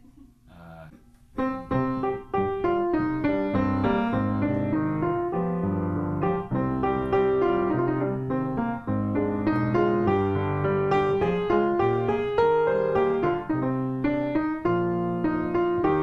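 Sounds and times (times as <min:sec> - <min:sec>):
grand piano playing chords: 0:01.4 - 0:16.0.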